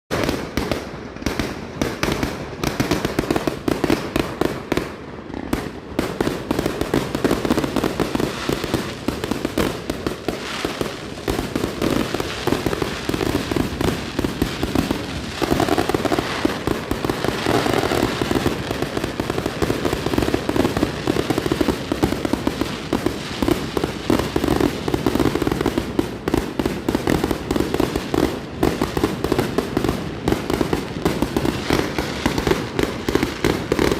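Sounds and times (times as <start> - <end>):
fireworks crackling pops: 0.1 - 33.9.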